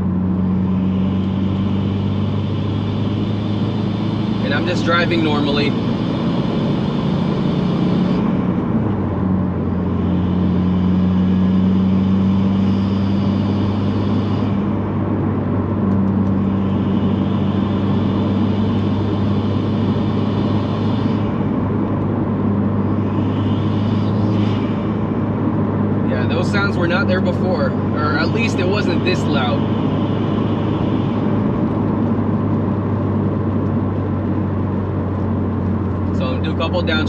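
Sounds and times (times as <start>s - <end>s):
car engine drone: 0.0s - 37.0s.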